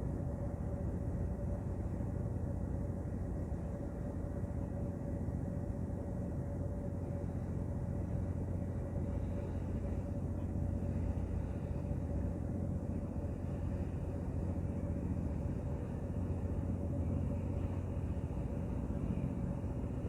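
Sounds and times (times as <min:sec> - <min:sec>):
ship engine rumbling: 0:00.1 - 0:20.0.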